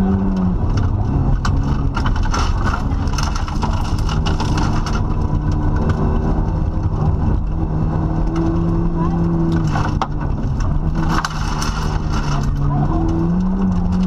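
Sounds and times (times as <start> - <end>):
gravel clicks and knocks: 0.0 - 8.8, 9.5 - 14.0
car engine under load: 0.0 - 14.0.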